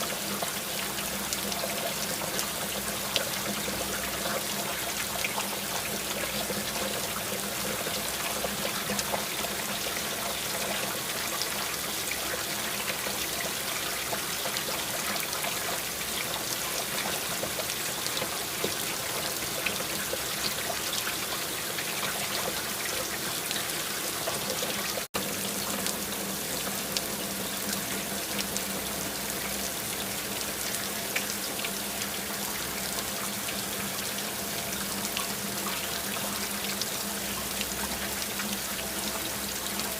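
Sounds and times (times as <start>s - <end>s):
faint water drips: 0.0s - 39.9s
water running and trickling: 0.0s - 39.9s.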